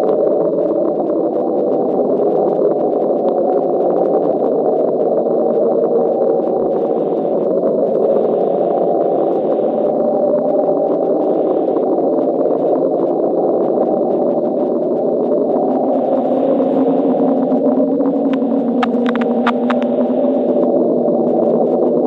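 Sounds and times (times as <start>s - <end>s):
dense low underwater hum: 0.0s - 22.0s.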